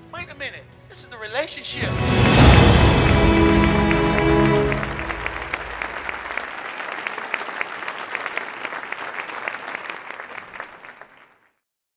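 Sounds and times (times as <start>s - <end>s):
congregation applauding: 0.2s - 11.6s.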